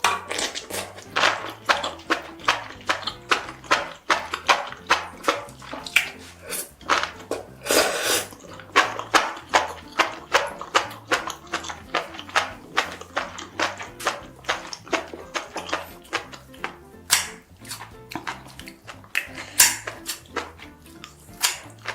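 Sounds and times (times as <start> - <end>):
wet chewing and mouth smacks: 0.0 - 21.9.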